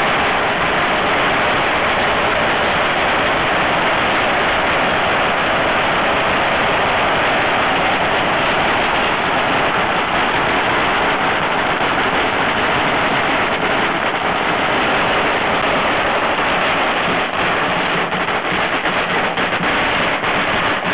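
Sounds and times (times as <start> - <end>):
firecrackers crackling: 0.0 - 20.9.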